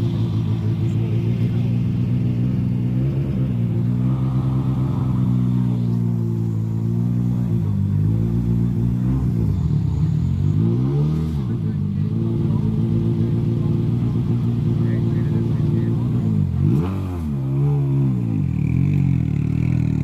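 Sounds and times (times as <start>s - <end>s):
truck diesel engine running hard: 0.0s - 16.8s.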